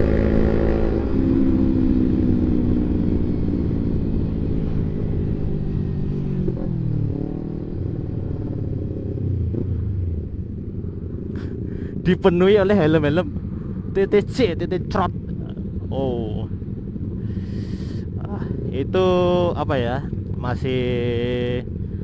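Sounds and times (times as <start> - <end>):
motorcycle engine while riding: 0.0 - 22.0.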